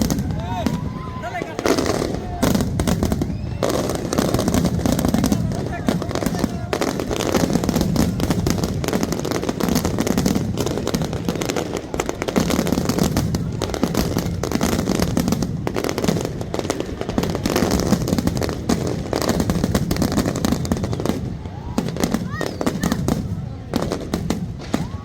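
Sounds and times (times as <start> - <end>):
fireworks crackling and popping: 0.0 - 25.0
rumble of firework bursts: 0.0 - 25.0.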